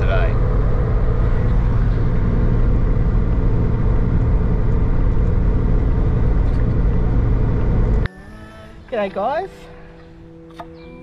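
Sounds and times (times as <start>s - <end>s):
engine and road rumble drone: 0.0s - 11.0s.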